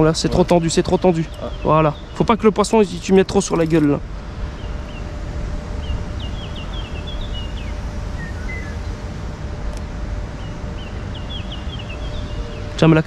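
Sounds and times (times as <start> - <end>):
songbird chirping: 0.0 - 5.2, 5.8 - 9.0, 10.3 - 13.0.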